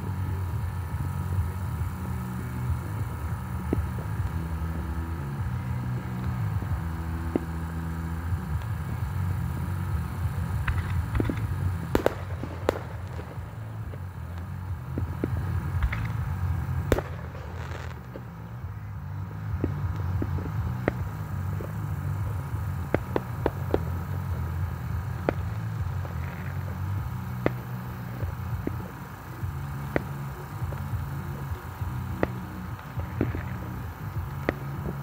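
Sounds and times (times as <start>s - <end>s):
fireworks bangs: 0.0s - 35.0s
low rumble: 0.0s - 35.0s.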